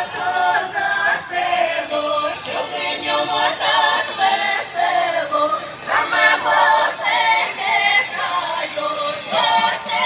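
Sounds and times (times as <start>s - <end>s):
choir singing over loudspeakers: 0.0s - 10.0s.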